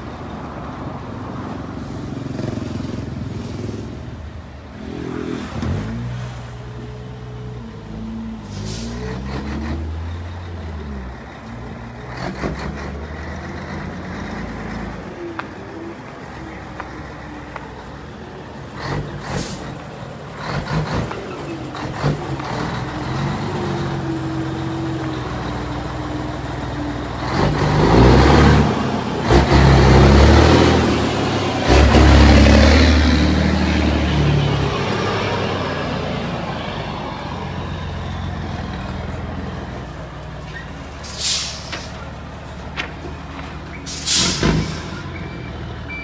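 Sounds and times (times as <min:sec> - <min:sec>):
diesel truck engine: 0:00.0 - 0:46.0.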